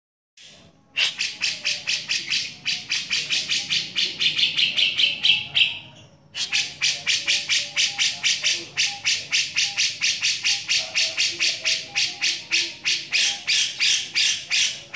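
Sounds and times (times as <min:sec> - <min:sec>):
bulbul harsh rapid chatter: 0:00.4 - 0:14.9.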